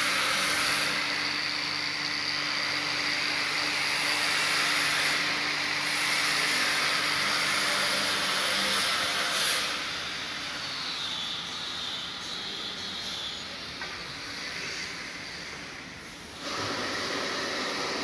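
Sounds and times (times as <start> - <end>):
power tool motor hissing: 0.0 - 15.6, 16.4 - 18.0.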